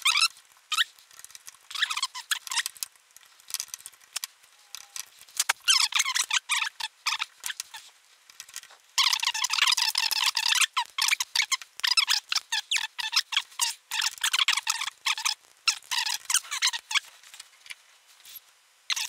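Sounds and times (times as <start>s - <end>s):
plastic squeaking: 0.0s - 2.9s, 3.5s - 7.9s, 8.5s - 17.1s
small clicks: 0.0s - 17.8s.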